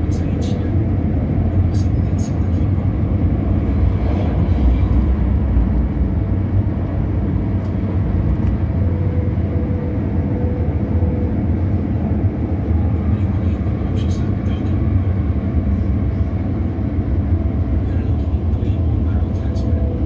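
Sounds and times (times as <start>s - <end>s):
faint steady whine: 0.0s - 20.0s
train wheels rumbling: 0.0s - 20.0s.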